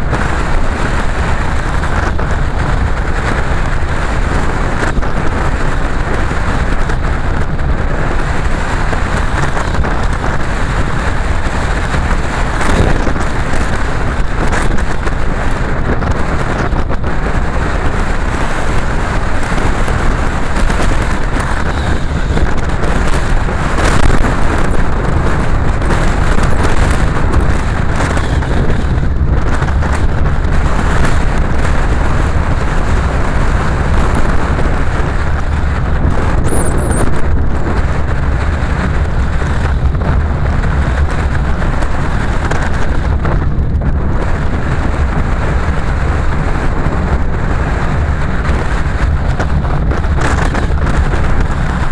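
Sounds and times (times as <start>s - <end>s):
car driving on road: 0.0s - 51.9s.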